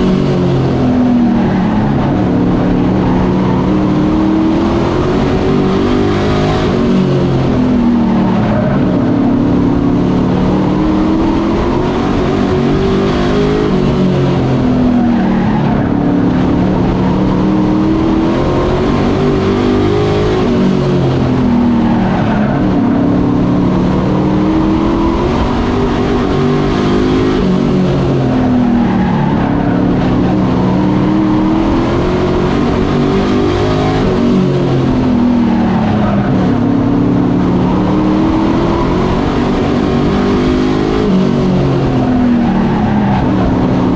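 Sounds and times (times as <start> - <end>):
race truck engines revving: 0.0 - 43.9.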